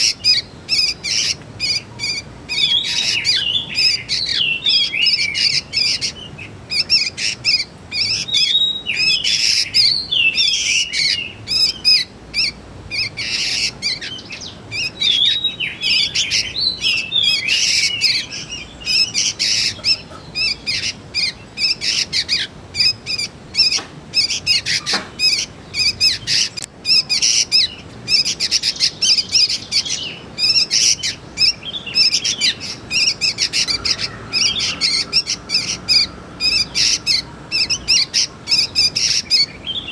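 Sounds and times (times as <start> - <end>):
young bulbuls chirping: 0.0 - 39.9.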